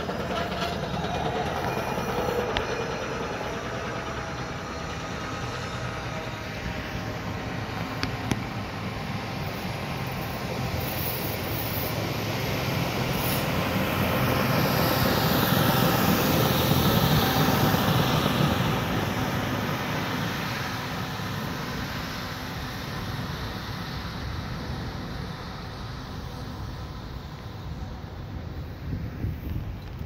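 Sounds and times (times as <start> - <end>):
track machine rolling past: 0.0 - 30.0.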